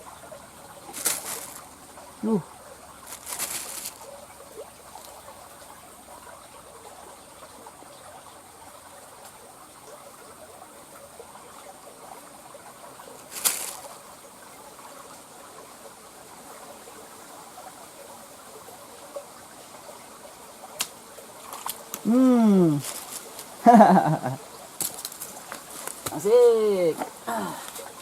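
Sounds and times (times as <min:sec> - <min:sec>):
water trickling and lapping: 0:00.0 - 0:28.0.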